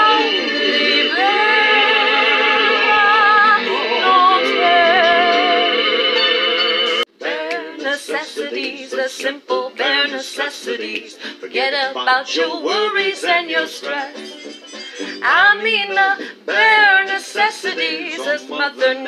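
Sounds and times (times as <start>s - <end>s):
woman singing: 0.0s - 5.8s, 7.2s - 14.2s, 15.2s - 19.0s
music: 0.0s - 19.0s.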